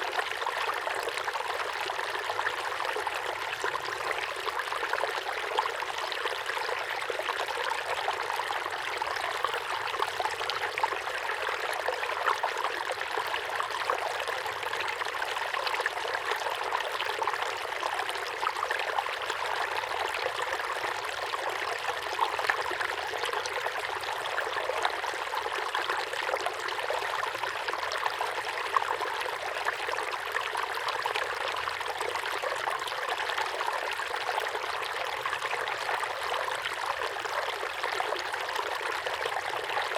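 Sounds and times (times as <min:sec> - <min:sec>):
waterfall pouring into pond: 0:00.0 - 0:39.9.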